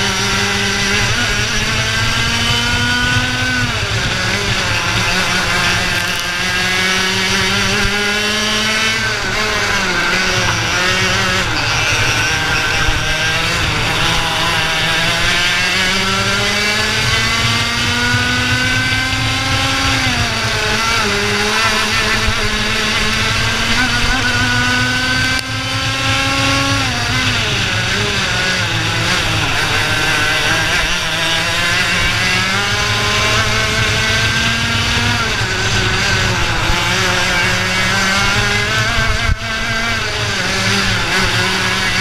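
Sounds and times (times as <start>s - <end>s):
kart engine at racing speed: 0.0s - 42.0s.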